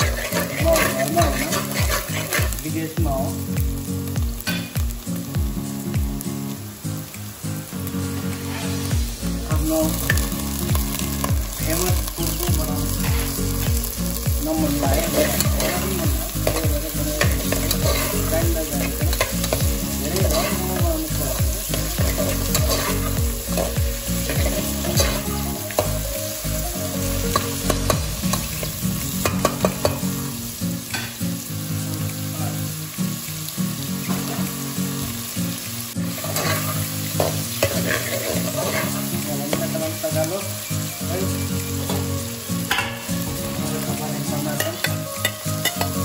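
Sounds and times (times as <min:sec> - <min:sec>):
food sizzling in oil: 0:00.0 - 0:46.0.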